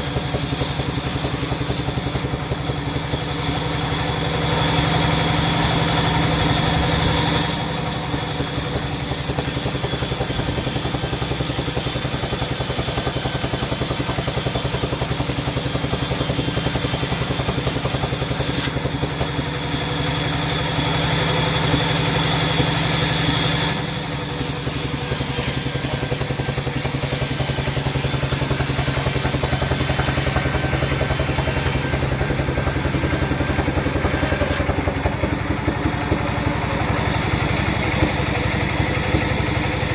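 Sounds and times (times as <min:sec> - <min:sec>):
blade cutting through wood: 0:00.0 - 0:02.4, 0:07.0 - 0:39.9
sawmill saw running: 0:00.0 - 0:39.9.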